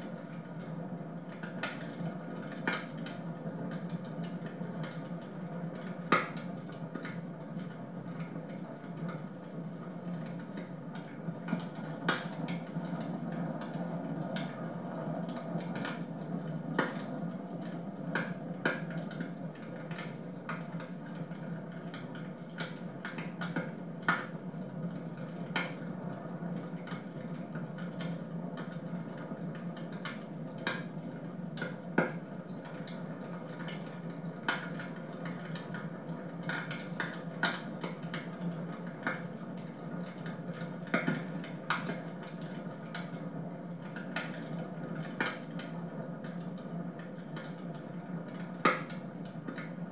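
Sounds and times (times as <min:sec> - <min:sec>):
wood fire crackling and popping: 0:00.1 - 0:26.0, 0:26.6 - 0:49.9.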